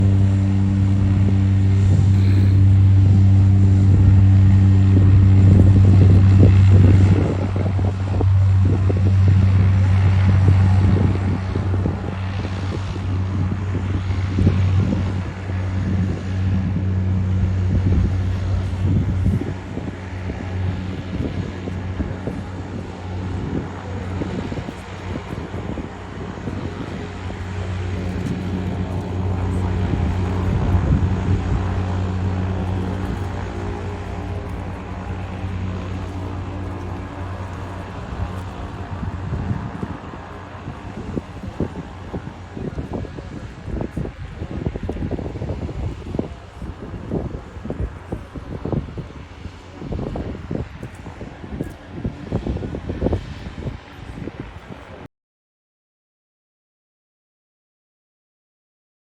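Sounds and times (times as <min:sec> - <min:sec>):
propeller engine drone: 0:00.0 - 0:55.1.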